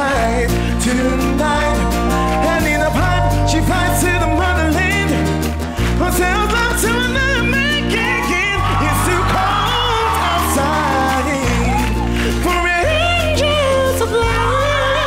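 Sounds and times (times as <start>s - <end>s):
band backing: 0.0s - 15.0s
bass line: 0.0s - 15.0s
man singing pop-soul song: 0.0s - 15.0s.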